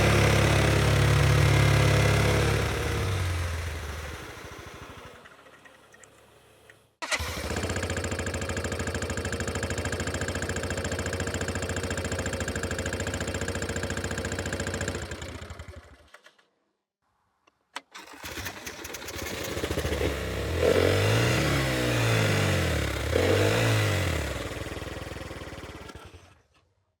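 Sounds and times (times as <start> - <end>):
autorickshaw engine idling and revving: 0.0 - 6.0, 6.6 - 16.2, 18.0 - 26.4.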